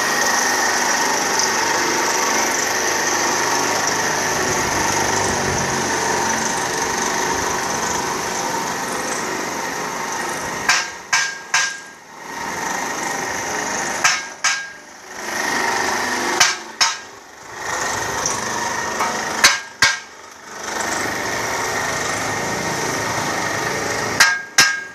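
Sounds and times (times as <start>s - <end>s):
motor running: 0.0s - 11.1s, 12.0s - 24.2s.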